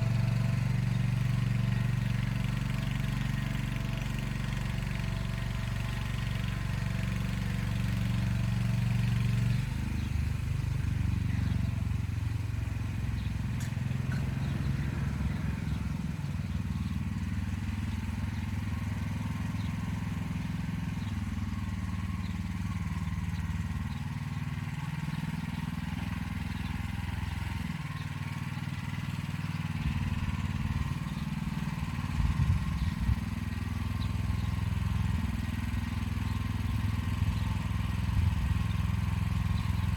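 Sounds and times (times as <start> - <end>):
walk-behind tractor engine running: 0.0 - 39.9.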